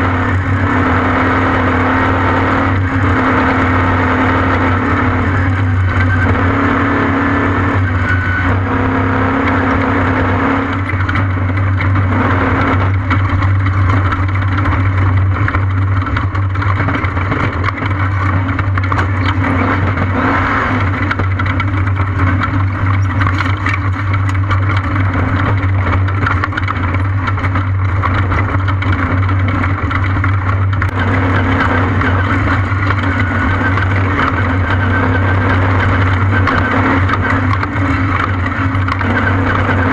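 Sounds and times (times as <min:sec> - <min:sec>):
continuous rushing noise: 0:00.0 - 0:39.9
vehicle engine droning: 0:00.0 - 0:39.9.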